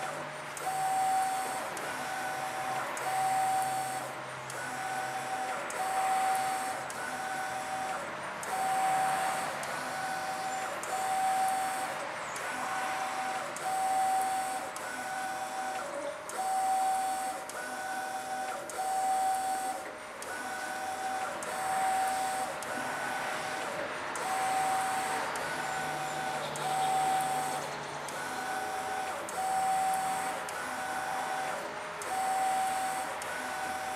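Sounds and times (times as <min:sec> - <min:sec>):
printer carriage whine: 0:00.0 - 0:33.9.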